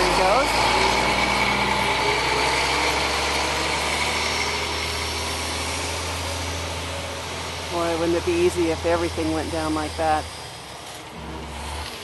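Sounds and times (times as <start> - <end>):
diesel truck engine at low revs: 0.0 - 12.0.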